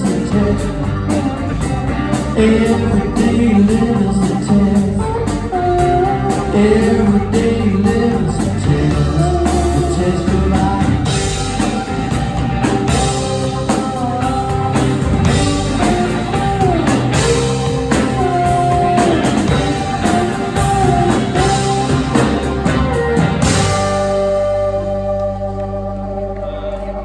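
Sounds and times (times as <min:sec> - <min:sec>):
drum kit beats: 0:00.0 - 0:26.9
lead line with bending notes: 0:00.0 - 0:27.0.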